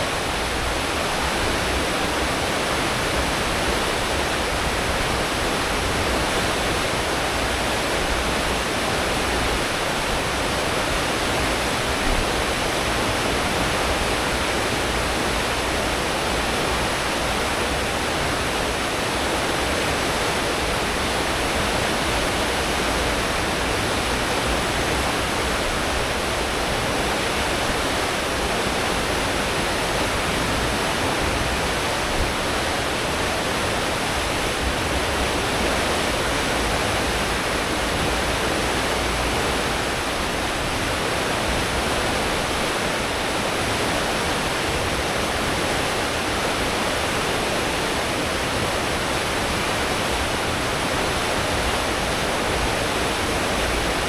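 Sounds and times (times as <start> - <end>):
water rushing in ship wake: 0.0 - 54.0.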